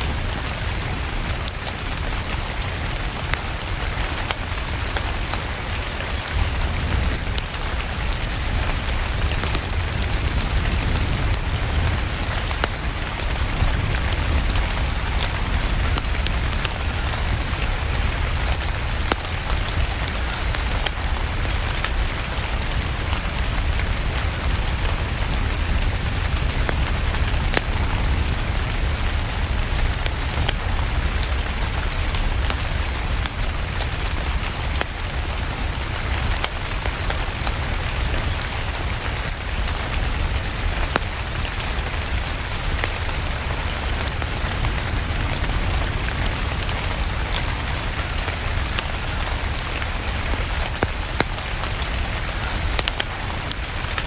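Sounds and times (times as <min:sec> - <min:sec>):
steady rain: 0:00.0 - 0:54.0
wood fire crackling: 0:00.0 - 0:54.0.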